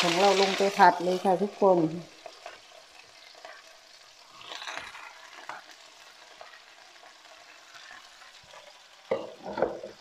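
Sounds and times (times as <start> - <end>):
frying pan sizzling: 0.0 - 10.0
greens hissing in hot pan: 0.0 - 10.0.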